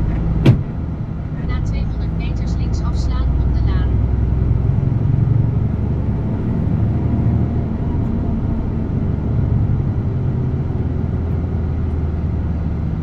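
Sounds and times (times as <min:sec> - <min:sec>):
road noise: 0:00.0 - 0:13.0
truck diesel engine: 0:00.0 - 0:13.0.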